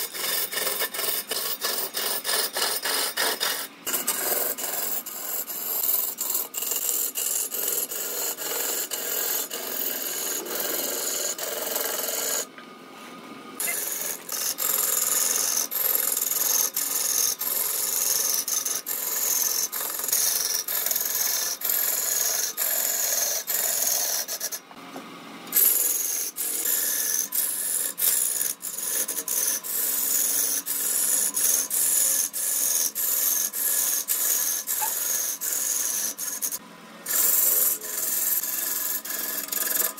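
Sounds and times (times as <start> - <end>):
lathe tool scraping wood: 0.0 - 12.5, 13.6 - 24.7, 25.6 - 39.9.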